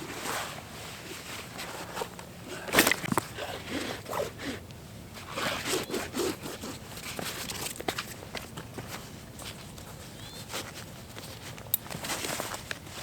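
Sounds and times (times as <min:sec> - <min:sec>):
rustling and scraping: 0:00.0 - 0:13.0.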